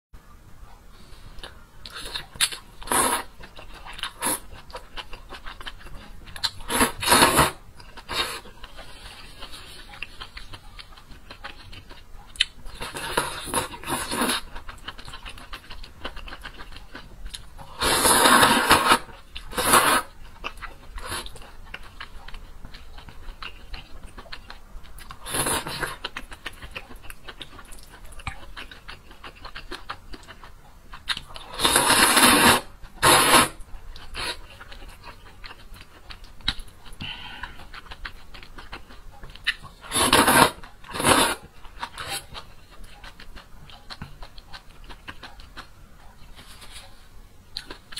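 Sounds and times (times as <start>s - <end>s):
soft chewing: 0.6s - 47.9s.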